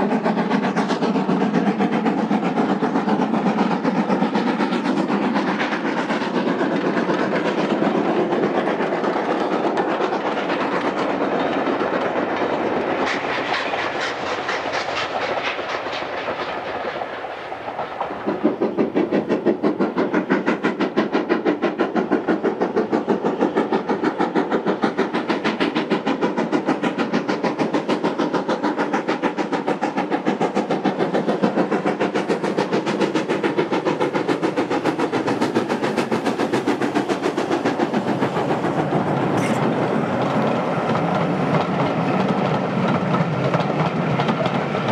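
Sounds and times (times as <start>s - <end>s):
steam locomotive exhaust beats: 0.0s - 44.9s.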